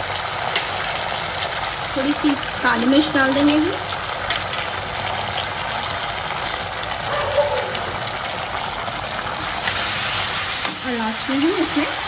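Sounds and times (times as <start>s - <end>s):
sauce sizzling in oil: 0.0s - 12.0s.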